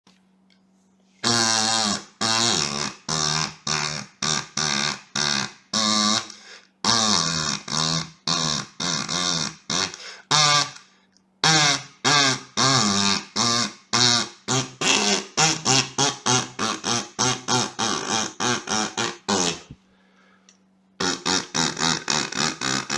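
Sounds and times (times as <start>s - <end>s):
kazoo buzzy notes: 1.1s - 19.8s, 21.0s - 22.9s.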